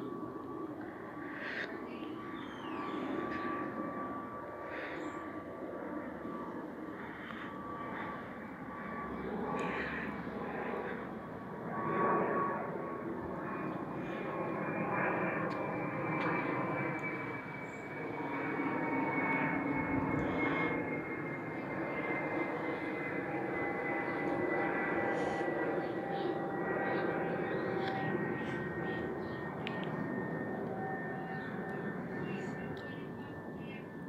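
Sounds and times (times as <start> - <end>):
faint falling whine: 0.0 - 34.0
jet passing overhead: 0.0 - 34.0.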